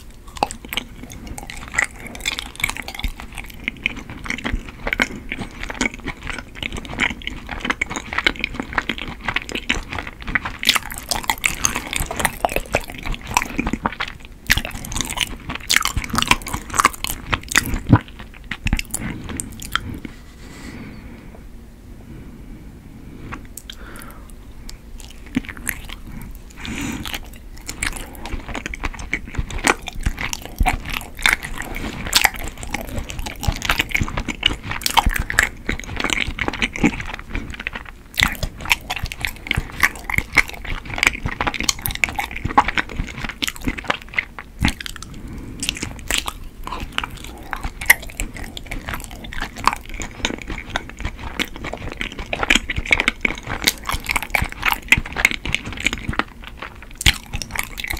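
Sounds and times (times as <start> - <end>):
chewing with sticky mouth clicks: 0.0 - 20.2, 23.3 - 57.9.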